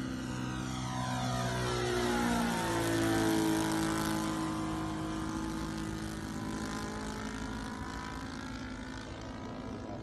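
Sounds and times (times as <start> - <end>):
model airplane engine droning: 0.0 - 10.0.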